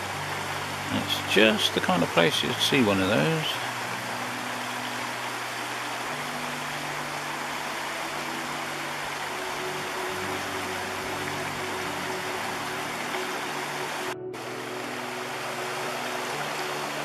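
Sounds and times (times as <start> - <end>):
river rushing over rocks: 0.0 - 17.0
soft low sustained music: 0.0 - 17.0.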